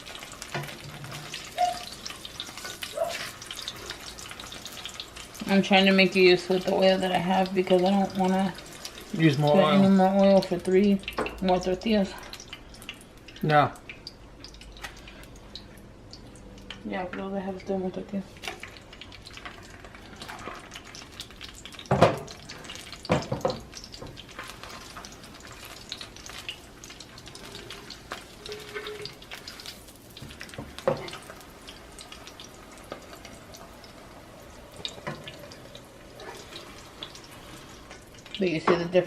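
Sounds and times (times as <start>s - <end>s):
tortillas sizzling in oil: 0.0s - 39.0s.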